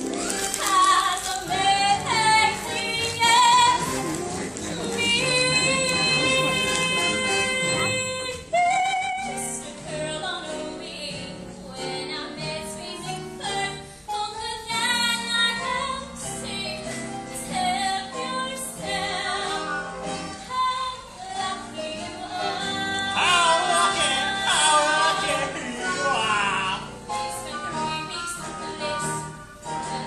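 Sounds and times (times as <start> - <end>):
backing music: 0.0 - 30.0
woman singing with vibrato: 0.5 - 4.0, 4.7 - 30.0.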